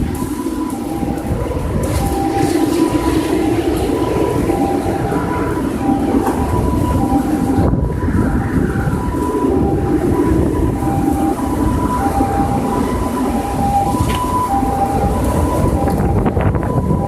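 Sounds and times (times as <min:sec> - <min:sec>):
storm wind roaring: 0:00.0 - 0:17.0
two-tone siren: 0:00.0 - 0:17.0.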